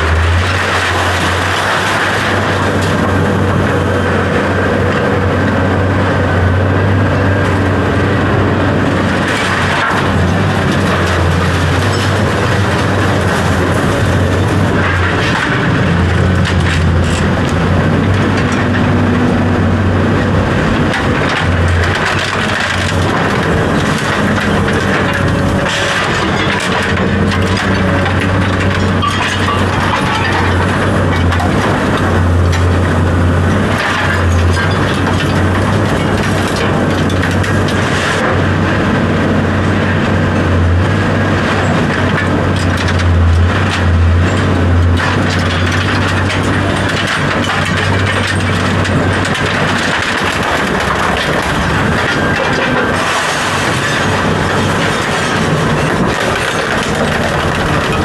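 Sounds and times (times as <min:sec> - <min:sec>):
knocks and clicks: 0:00.0 - 0:58.0
loud machine hum: 0:00.0 - 0:58.0.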